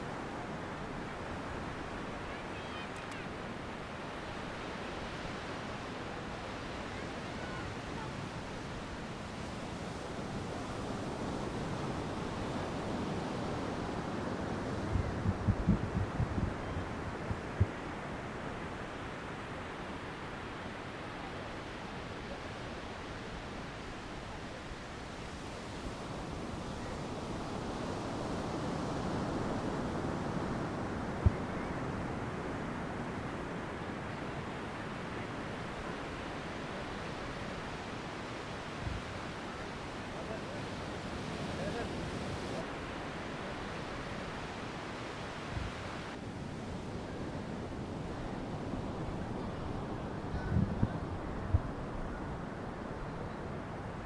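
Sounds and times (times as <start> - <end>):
sea surf breaking on beach: 0.0 - 54.0.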